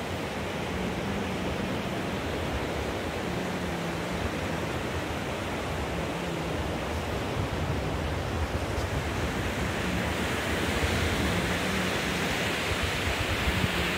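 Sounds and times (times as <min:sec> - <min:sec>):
waves breaking on a beach: 0:00.0 - 0:13.9
wind buffeting microphone: 0:00.0 - 0:13.9.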